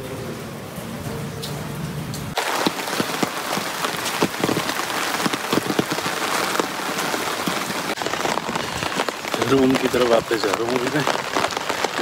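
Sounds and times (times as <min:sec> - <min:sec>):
heavy rain on an umbrella: 0:00.0 - 0:12.0.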